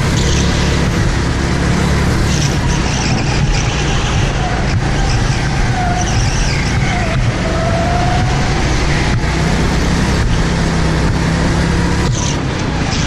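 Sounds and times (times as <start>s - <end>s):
go-kart engine droning: 0.0s - 13.0s.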